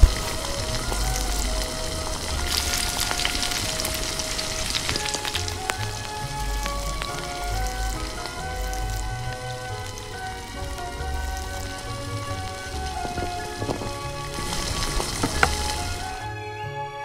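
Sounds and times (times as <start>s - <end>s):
food sizzling in oil: 0.0s - 16.2s
soft background music: 0.0s - 17.0s.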